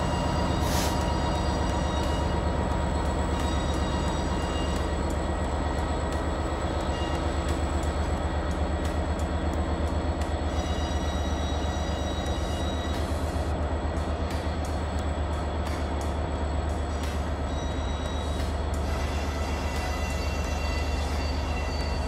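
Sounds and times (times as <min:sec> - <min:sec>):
diesel locomotive engine droning: 0:00.0 - 0:22.0.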